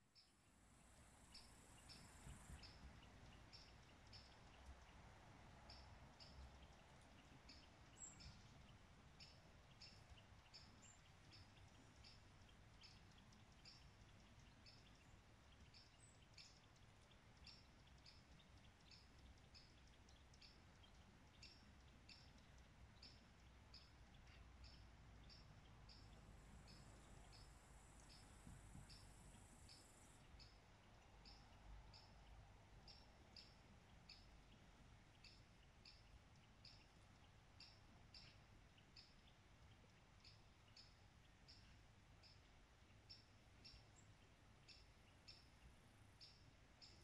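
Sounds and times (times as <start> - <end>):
faint low rumble: 0.0 - 47.0.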